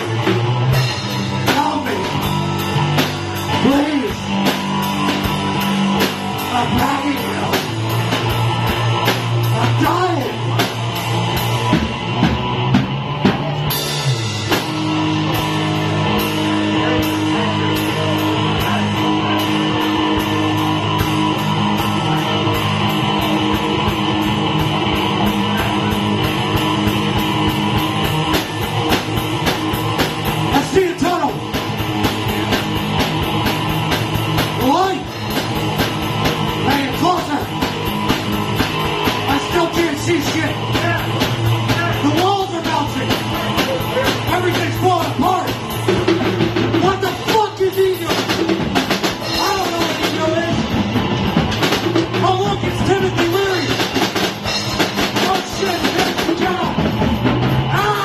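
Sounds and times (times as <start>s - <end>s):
drum kit cymbal beat: 0.0s - 58.0s
electric guitar chords: 0.0s - 58.0s.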